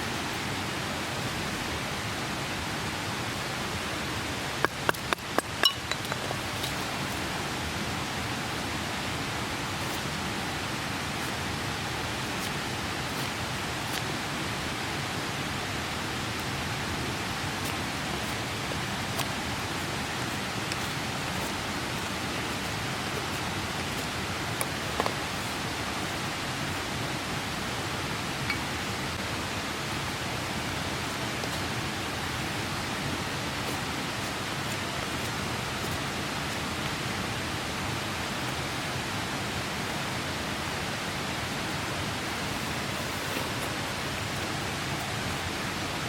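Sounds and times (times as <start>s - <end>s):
mountain stream rushing: 0.0s - 46.0s.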